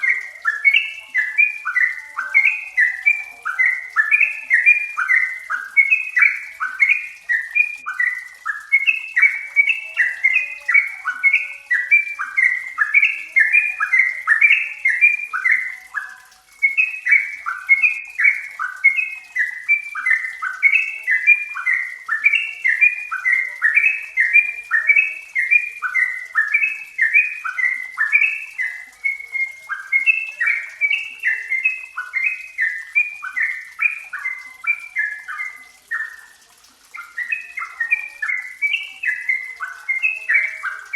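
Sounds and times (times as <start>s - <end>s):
bulbul singing bubbling notes: 0.0s - 40.9s.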